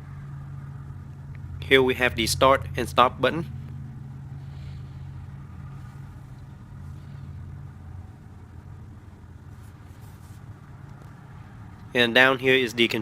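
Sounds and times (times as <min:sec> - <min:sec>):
car engine idling inside cabin: 0:00.0 - 0:13.0.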